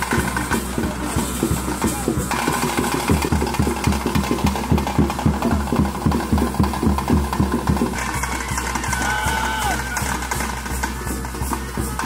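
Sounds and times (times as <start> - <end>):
fast ritual drumming: 0.0 - 12.0.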